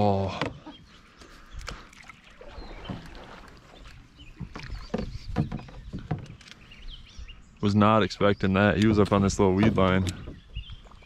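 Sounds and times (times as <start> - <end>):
knocks and clunks in a canoe: 0.0 - 7.4, 8.5 - 11.0.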